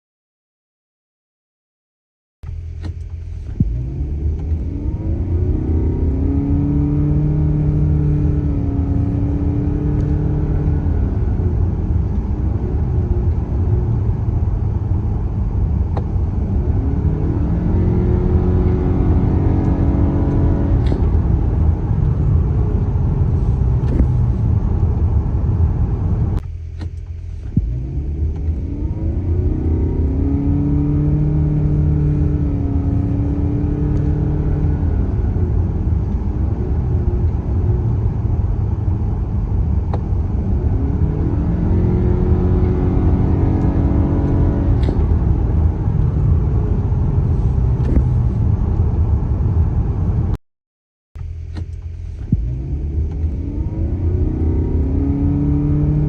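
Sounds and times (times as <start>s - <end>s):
car engine: 2.4s - 50.4s, 51.2s - 56.0s
road and tyre rumble: 2.4s - 50.4s, 51.2s - 56.0s.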